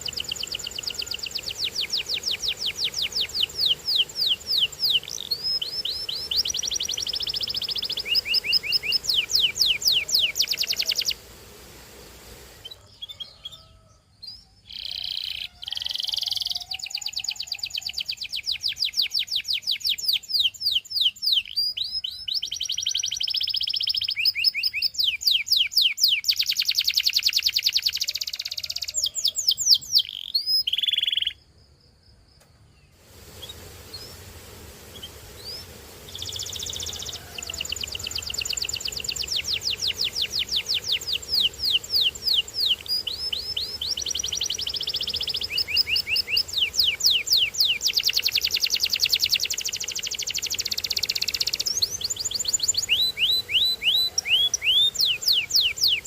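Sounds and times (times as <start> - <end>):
canary singing trills: 0.0 - 11.3, 12.5 - 31.5, 34.9 - 56.0.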